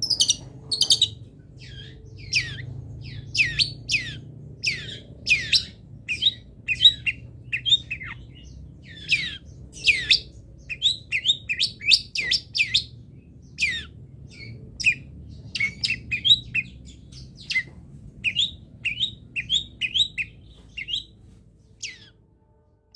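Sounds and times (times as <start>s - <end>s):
bird singing sharp chirps: 0.0s - 21.2s.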